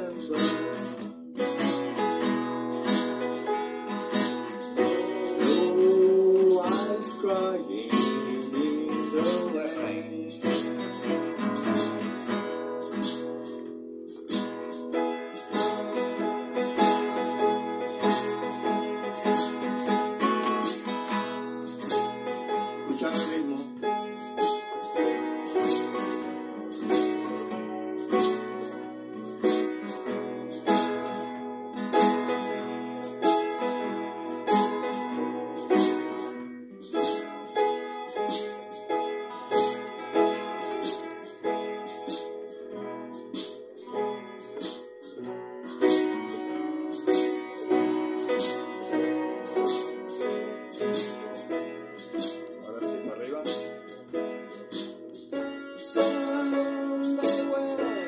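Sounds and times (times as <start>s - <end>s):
acoustic guitar strumming: 0.0s - 58.0s
shaker-like rattle: 0.0s - 58.0s
sustained keyboard chords: 0.0s - 58.0s.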